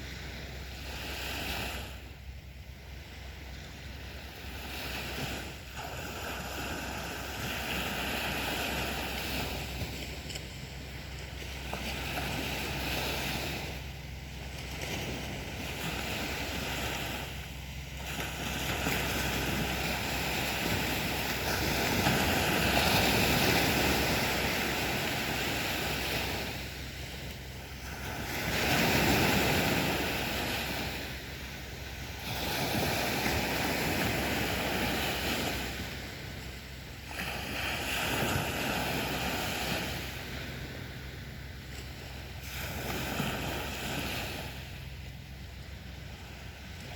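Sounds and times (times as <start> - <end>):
sea waves breaking on beach: 0.0 - 46.9.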